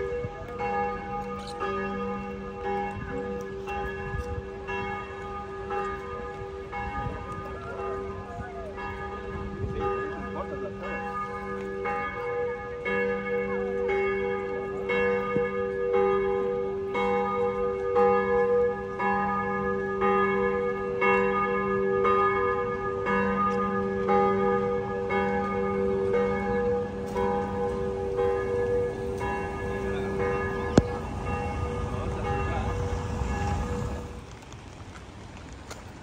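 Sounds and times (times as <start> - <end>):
church bells ringing: 0.0 - 34.2.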